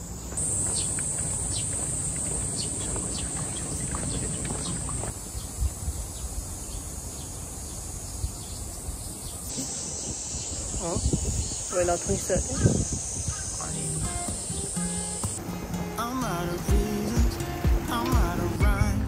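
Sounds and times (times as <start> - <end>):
insects buzzing: 0.0 - 18.9.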